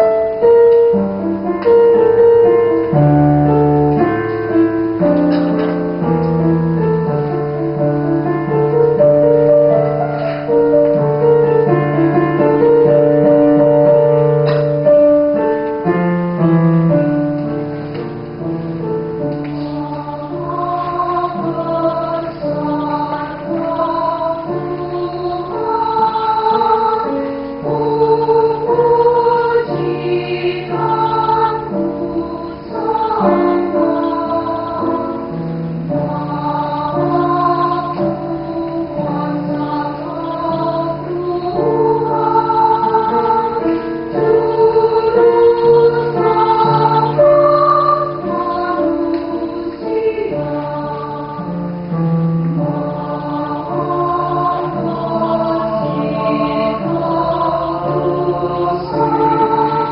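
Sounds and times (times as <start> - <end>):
mixed choir singing: 0.0 - 17.3, 18.0 - 59.9.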